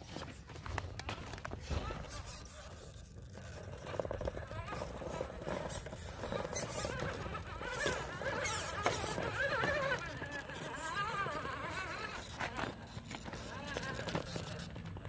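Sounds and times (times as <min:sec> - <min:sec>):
tyres scraping on stone: 0:01.0 - 0:15.0
electric motor whining: 0:01.3 - 0:15.0.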